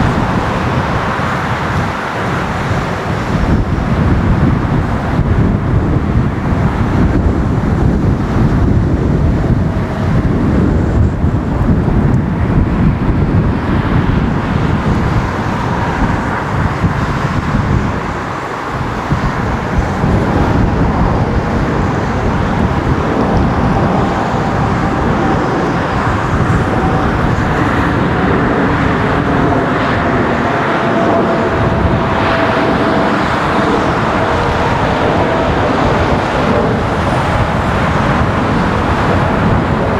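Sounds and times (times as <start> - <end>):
faint engine whine: 0.0 - 39.9
jet engines rumbling: 0.0 - 39.9.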